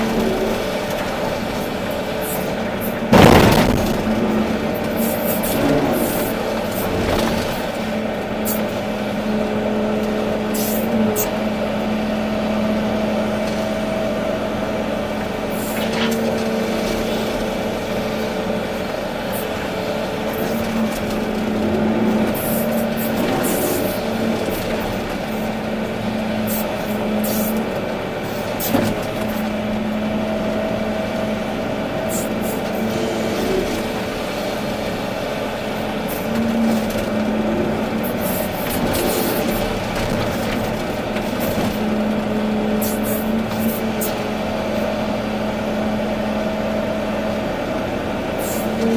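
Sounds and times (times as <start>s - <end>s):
excavator engine and hydraulics hum: 0.0s - 48.9s.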